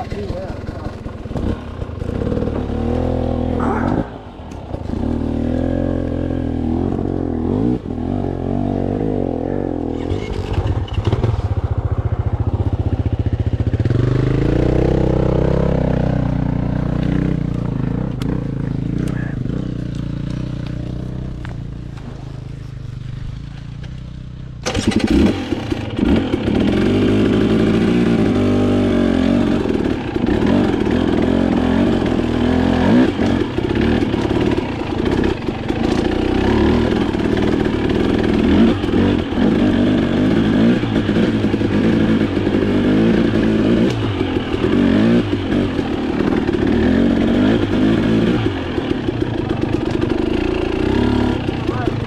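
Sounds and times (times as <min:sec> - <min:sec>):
bike rattling: 0:00.0 - 0:07.2, 0:10.0 - 0:15.6, 0:16.2 - 0:52.0
dirt bike engine revving: 0:00.0 - 0:52.0.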